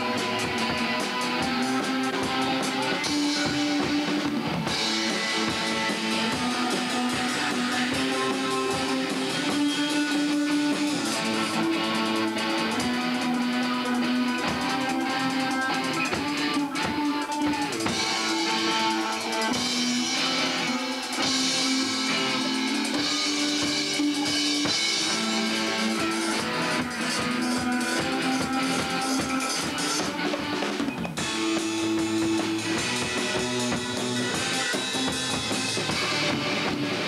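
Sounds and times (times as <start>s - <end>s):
rock band playing live: 0.0s - 37.0s.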